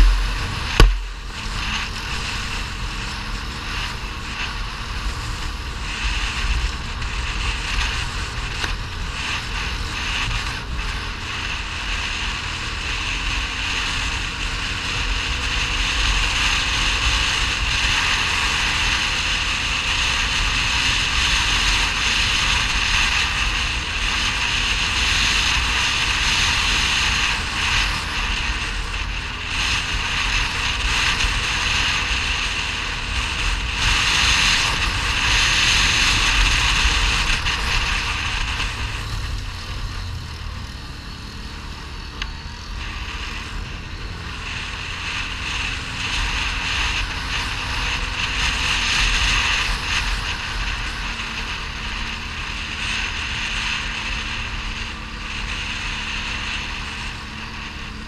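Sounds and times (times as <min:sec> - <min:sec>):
quad bike engine running: 0:00.0 - 0:58.0
wind rumbling on microphone: 0:00.0 - 0:58.0.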